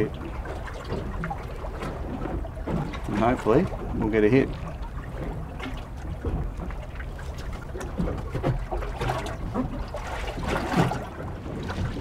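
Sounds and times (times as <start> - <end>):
low wind rumble: 0.0 - 12.0
water lapping against boat hull: 0.0 - 12.0.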